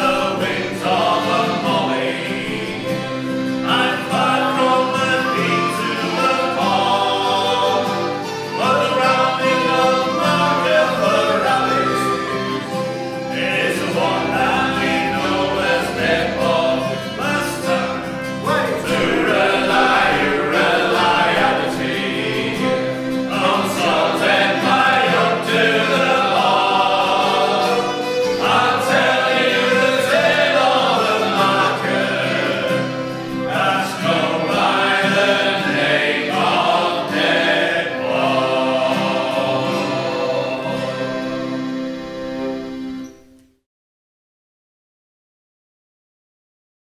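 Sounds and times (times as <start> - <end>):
group singing in harmony: 0.0 - 42.4.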